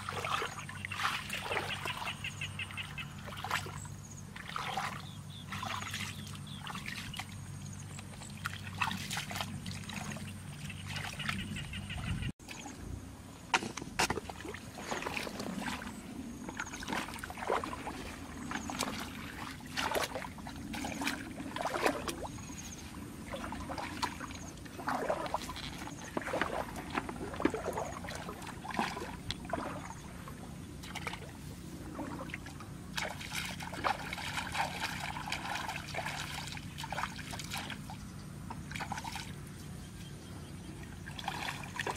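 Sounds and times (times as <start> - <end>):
splashing through muddy water: 0.0 - 12.8, 13.6 - 41.9
steady low hum: 0.0 - 41.9.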